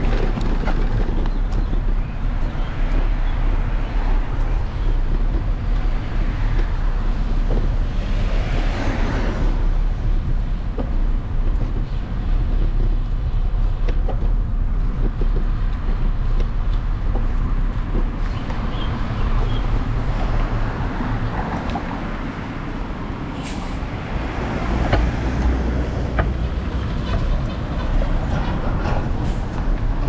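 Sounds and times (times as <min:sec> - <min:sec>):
passing vehicle: 0:00.0 - 0:30.0
wind buffeting microphone: 0:00.0 - 0:30.0.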